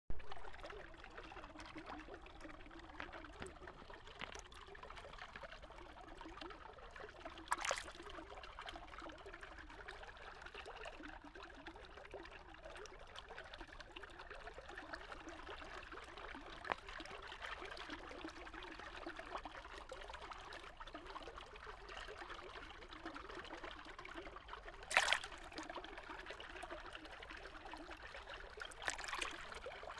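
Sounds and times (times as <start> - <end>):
trickle of running water: 0.2 - 29.9.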